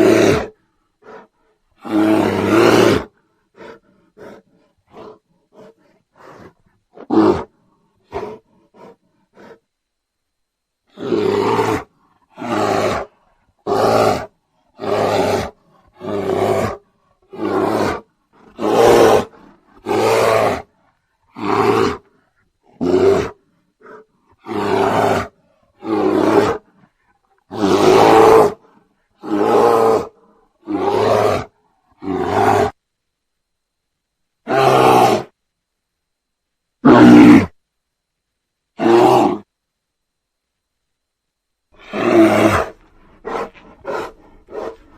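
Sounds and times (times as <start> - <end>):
bear roaring: 0.0 - 9.6, 10.9 - 32.8, 34.4 - 35.4, 36.8 - 37.6, 38.8 - 39.5, 41.8 - 44.9.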